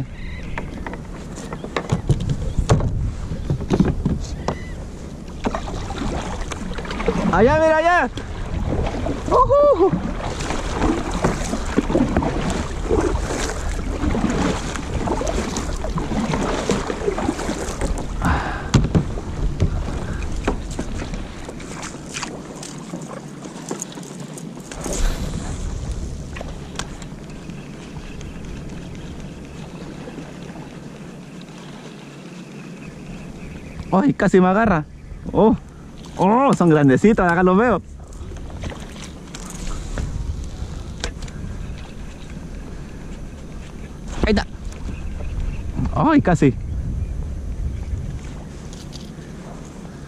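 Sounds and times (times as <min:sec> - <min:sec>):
wind buffeting microphone: 0:00.0 - 0:22.1, 0:24.7 - 0:31.2, 0:33.3 - 0:50.0
water splashing against kayak: 0:00.0 - 0:50.0.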